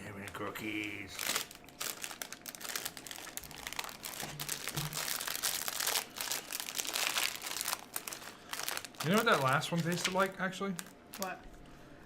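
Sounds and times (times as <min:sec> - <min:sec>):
plastic wrapper crinkling: 0:00.2 - 0:11.5.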